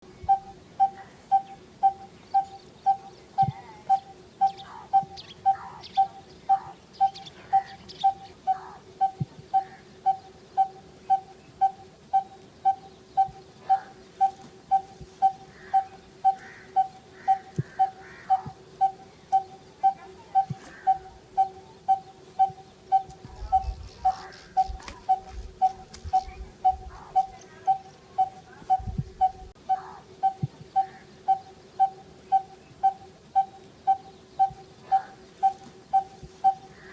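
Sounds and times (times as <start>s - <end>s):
birds chirping faintly: 0.0s - 36.9s.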